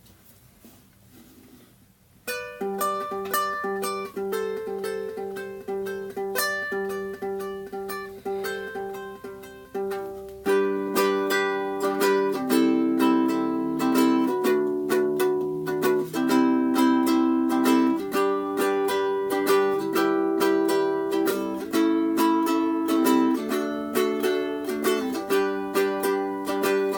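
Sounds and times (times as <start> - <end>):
ukulele fingerpicked: 2.2 - 26.9.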